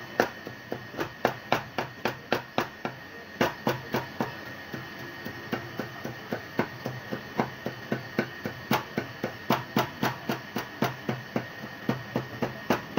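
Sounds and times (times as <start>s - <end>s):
cleaver chopping meat on wood: 0.2s - 4.3s, 5.5s - 12.9s.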